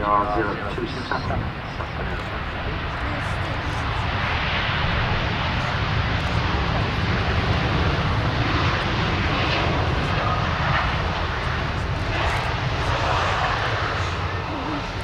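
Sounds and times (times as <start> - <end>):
jet engines rushing: 0.0 - 15.0
wind buffeting microphone: 0.0 - 15.0.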